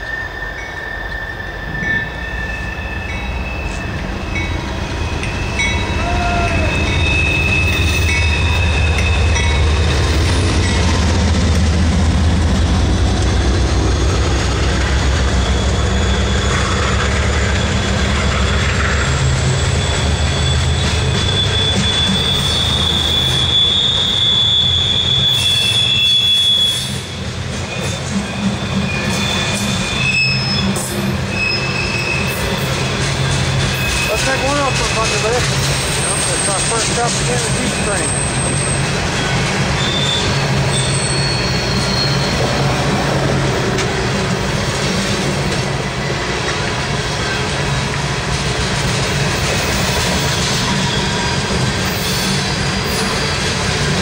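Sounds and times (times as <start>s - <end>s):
high wheel squeal: 0.0s - 10.9s, 13.4s - 45.1s, 49.1s - 54.0s
diesel locomotive engine rumble: 0.0s - 54.0s
train wheel noise: 0.0s - 54.0s.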